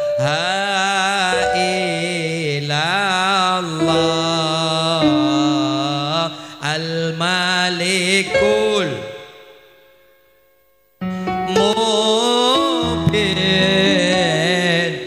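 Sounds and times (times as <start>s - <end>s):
man singing devotional song: 0.0s - 10.1s, 11.1s - 15.0s.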